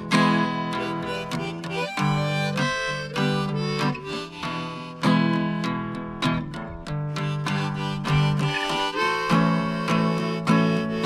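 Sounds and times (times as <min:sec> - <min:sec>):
strummed acoustic guitar music: 0:00.0 - 0:11.0.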